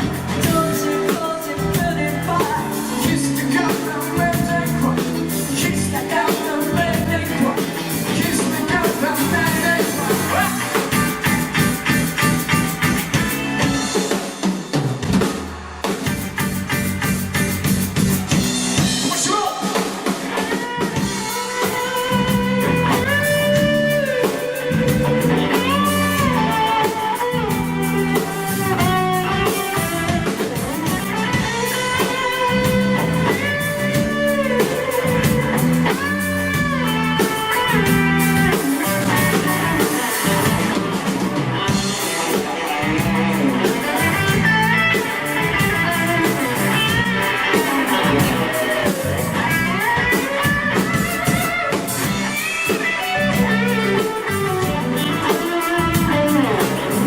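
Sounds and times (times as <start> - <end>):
electric guitar solo: 0.0 - 14.2, 15.9 - 57.0
drums and bass groove: 0.0 - 57.0.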